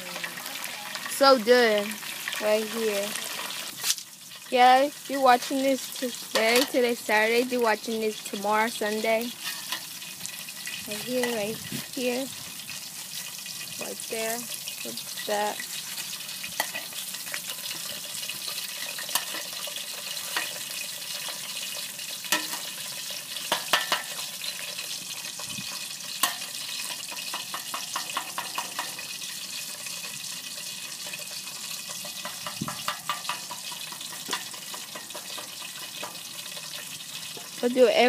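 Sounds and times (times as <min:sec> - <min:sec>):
chicken sizzling in hot oil: 0:00.0 - 0:38.0
oil popping and crackling: 0:00.0 - 0:38.0.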